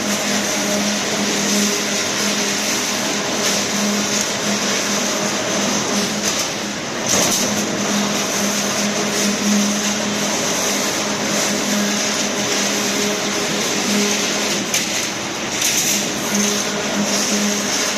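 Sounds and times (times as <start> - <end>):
rebar bending machine running: 0.0 - 17.9.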